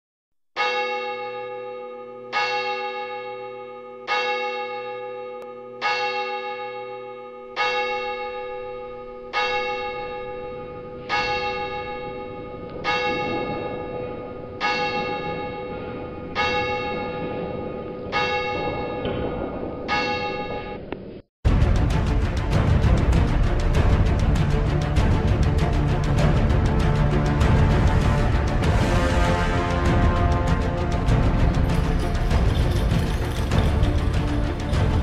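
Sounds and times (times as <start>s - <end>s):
bell tolling slowly: 0.6s - 20.9s, 26.8s - 35.0s.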